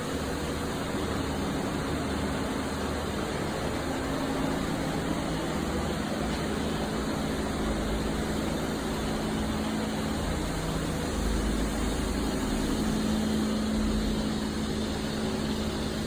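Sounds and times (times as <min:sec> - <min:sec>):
mechanical hum with low drone: 0:00.0 - 0:16.0.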